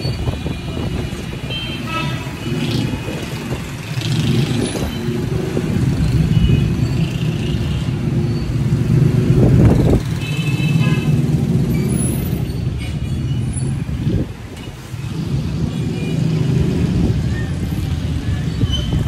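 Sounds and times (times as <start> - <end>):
motorcycle and car engines: 0.0 - 19.0.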